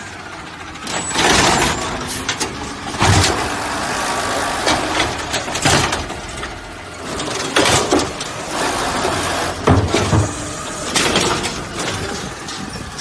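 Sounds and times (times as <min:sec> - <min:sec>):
garbage truck running: 0:00.0 - 0:13.0.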